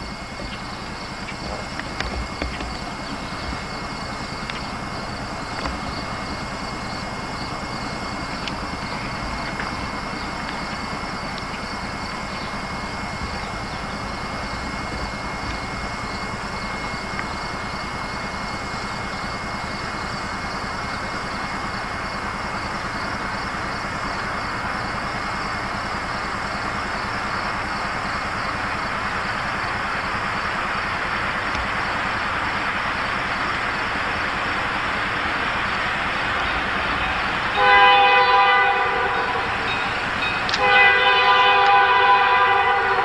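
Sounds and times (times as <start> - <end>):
distant diesel locomotive engine: 0.0 - 43.0.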